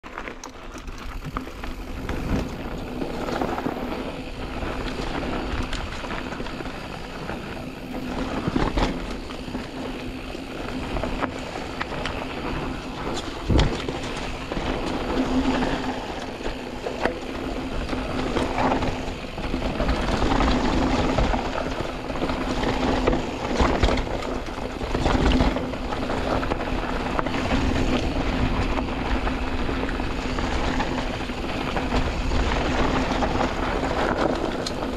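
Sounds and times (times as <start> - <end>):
bike rattling and knocking: 0.0 - 34.9
bike tyres rumbling over dirt: 0.0 - 34.9.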